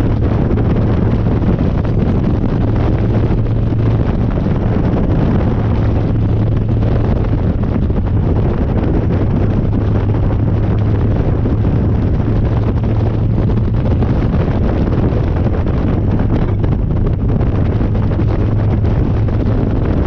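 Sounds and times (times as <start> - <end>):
motorcycle engine cruising: 0.0 - 20.0
wind noise on microphone: 0.0 - 20.0.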